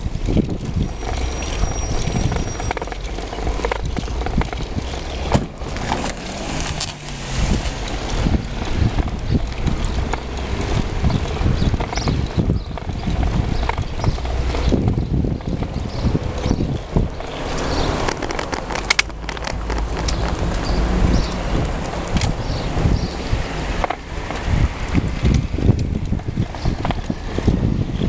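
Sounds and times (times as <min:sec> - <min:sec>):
bicycle knocks and rattles: 0:00.0 - 0:28.0
wind rumble on microphone: 0:00.0 - 0:28.0.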